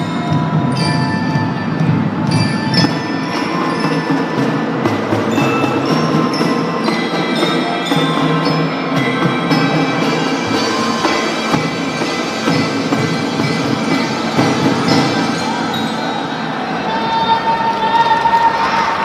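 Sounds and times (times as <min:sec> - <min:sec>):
mallet percussion melody: 0:00.0 - 0:16.3
drums: 0:00.0 - 0:16.7.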